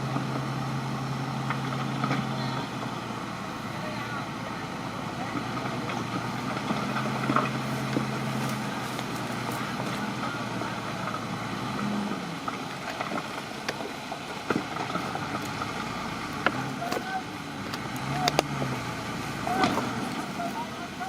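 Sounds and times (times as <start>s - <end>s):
constant mechanical noise: 0.0s - 21.0s
diesel engine humming: 0.0s - 21.0s.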